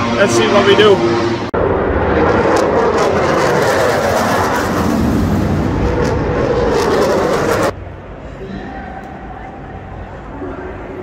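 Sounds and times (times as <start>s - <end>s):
racing motorcycle engines howling: 0.0s - 11.0s.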